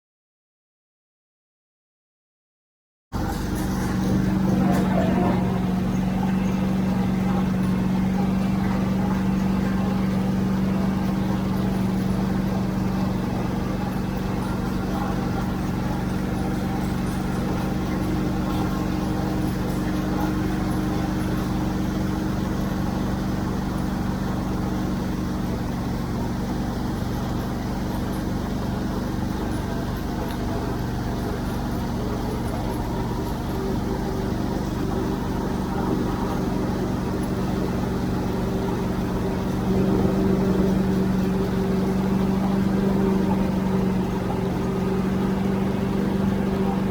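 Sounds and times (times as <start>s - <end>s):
tractor engine running: 3.2s - 46.9s.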